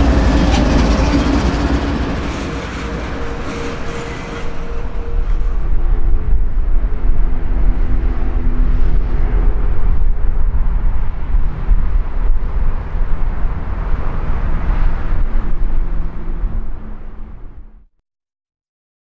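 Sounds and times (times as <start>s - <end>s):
freight train rumble: 0.0s - 17.8s
diesel locomotive engine drone: 0.0s - 17.9s.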